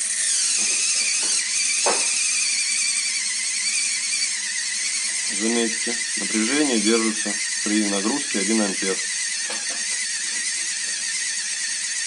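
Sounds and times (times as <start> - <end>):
motor clicks: 0.0 - 11.3
electric motor whining: 0.0 - 12.0.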